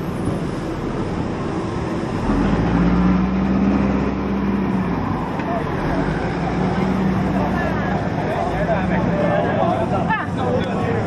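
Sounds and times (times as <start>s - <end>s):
large vehicle engine humming: 0.0s - 11.0s
street traffic: 0.0s - 11.0s.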